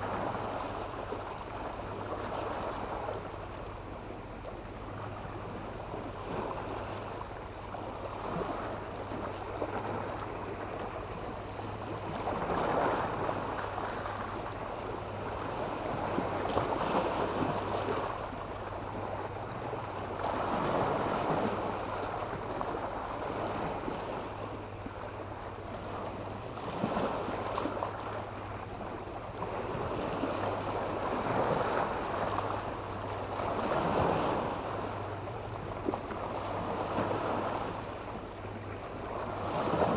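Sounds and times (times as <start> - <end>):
sea waves breaking on stony shore: 0.0 - 39.9.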